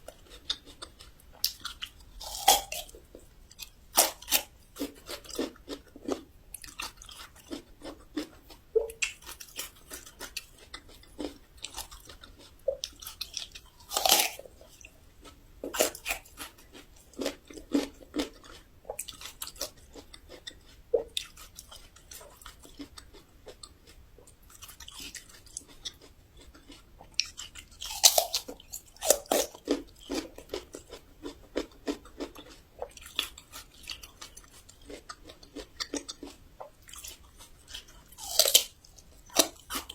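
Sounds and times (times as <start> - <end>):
crisp chewing crunches: 0.0 - 39.9.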